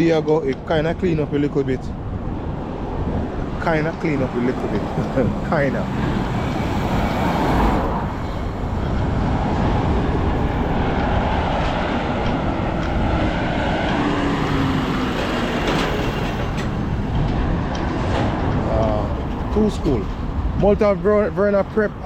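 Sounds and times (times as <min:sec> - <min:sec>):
passing traffic: 0:00.0 - 0:22.0
road rumble: 0:00.0 - 0:22.0
wind noise: 0:00.0 - 0:22.0.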